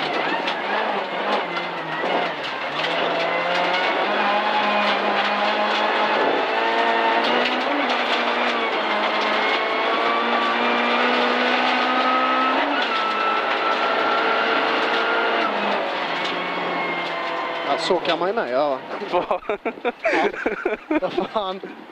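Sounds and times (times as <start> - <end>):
gravel and road noise: 0.0 - 21.9
rally car engine at full throttle: 0.0 - 21.9.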